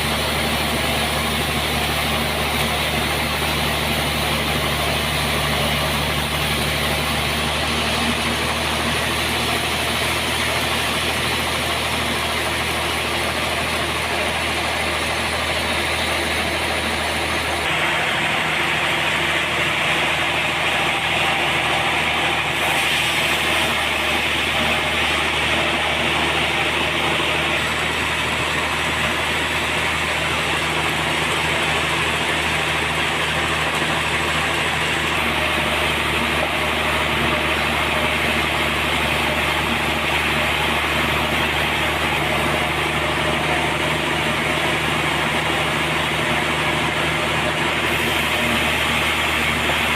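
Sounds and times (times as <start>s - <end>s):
sawmill engine hum: 0.0s - 49.9s.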